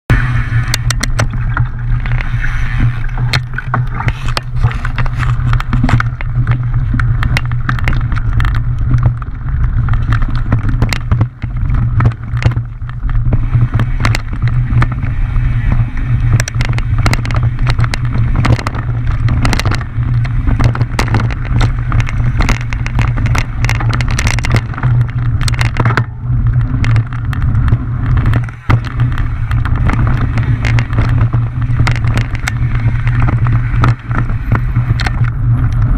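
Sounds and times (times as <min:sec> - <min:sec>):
bike clicking and rattling: 0:00.1 - 0:35.9
wind rumble on microphone: 0:00.1 - 0:35.9.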